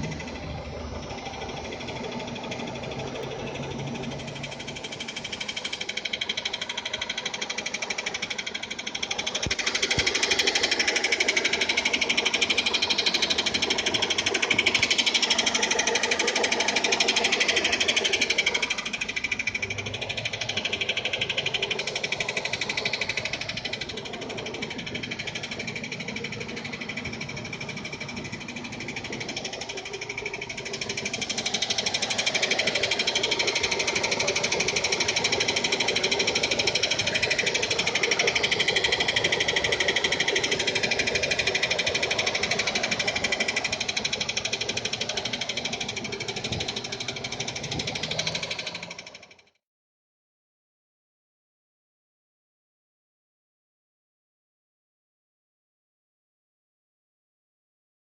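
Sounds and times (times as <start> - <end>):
fast metallic knocking rattle: 0.0 - 49.4
car engine idling: 0.0 - 49.5.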